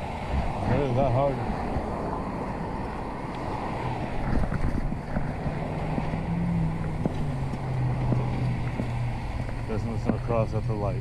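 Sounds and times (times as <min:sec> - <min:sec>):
passing vehicles hum: 0:00.0 - 0:11.0
wind rumbling on microphone: 0:00.0 - 0:11.0.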